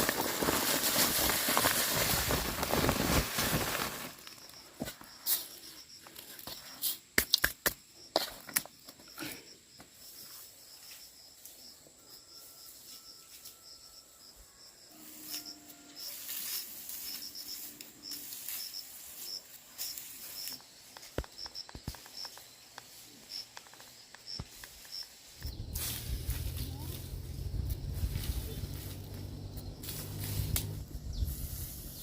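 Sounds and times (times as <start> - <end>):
insect chirping: 0.2 - 32.0.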